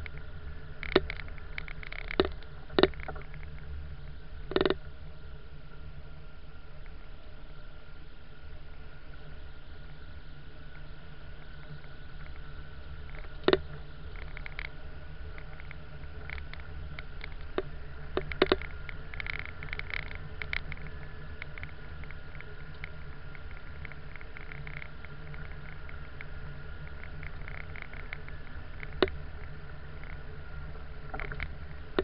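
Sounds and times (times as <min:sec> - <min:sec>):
faint steady whine: 0:00.0 - 0:32.0
vehicle driving low rumble: 0:00.0 - 0:32.0.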